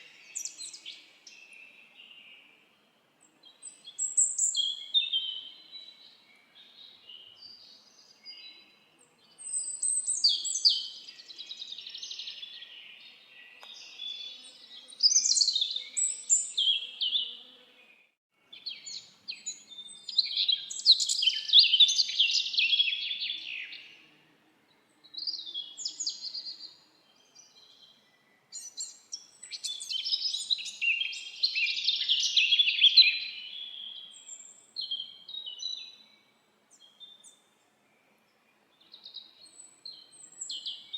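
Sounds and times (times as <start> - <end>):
songbirds chirping and warbling: 0.0 - 40.9.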